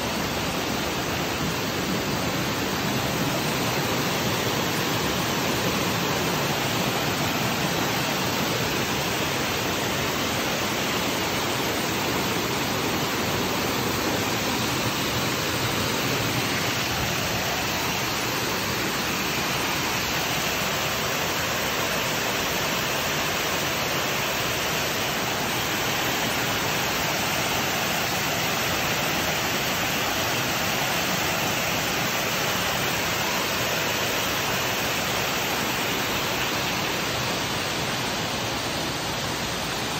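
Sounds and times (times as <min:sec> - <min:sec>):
waterfall over boulders: 0:00.0 - 0:39.9.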